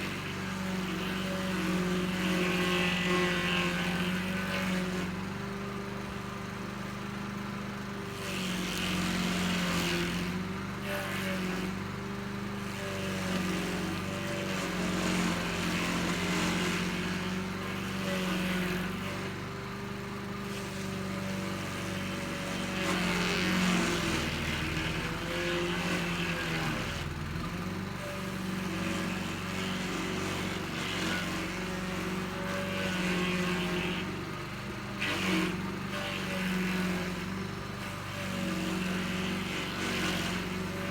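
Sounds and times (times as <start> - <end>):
cutting wheel grinding stump: 0.0 - 6.2, 8.0 - 40.9
stump grinder engine running: 0.0 - 40.9.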